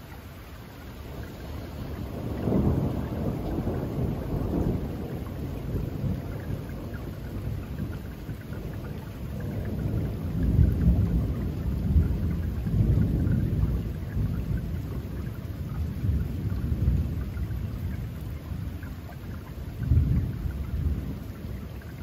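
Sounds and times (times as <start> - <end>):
rain pattering through pine trees: 0.0 - 22.0
thunder rumbling: 1.1 - 22.0.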